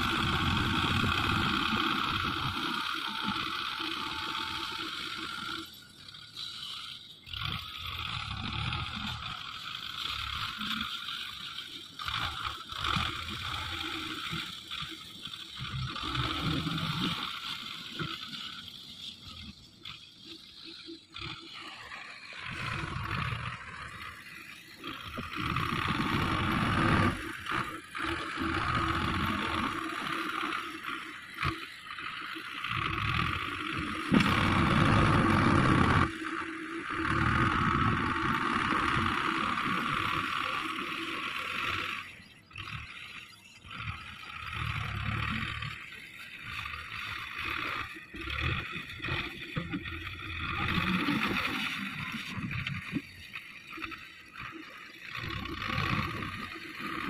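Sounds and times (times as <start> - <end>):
loader blade pushing sand: 0.0 - 57.0
tractor diesel engine under load: 0.0 - 57.0.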